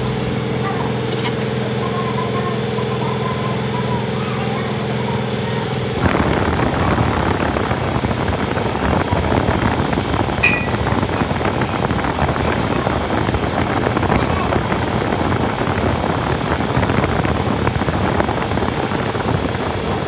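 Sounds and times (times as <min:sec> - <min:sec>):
machinery humming drone: 0:00.0 - 0:20.0
rough rattling machinery: 0:00.0 - 0:20.0.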